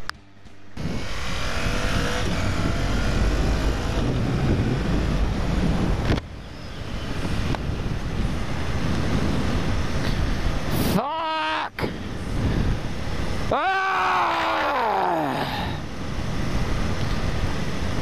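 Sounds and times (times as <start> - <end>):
motorcycle engine drone: 0.0 - 18.0
wind rush on microphone: 0.8 - 11.1, 11.7 - 13.6, 15.4 - 18.0.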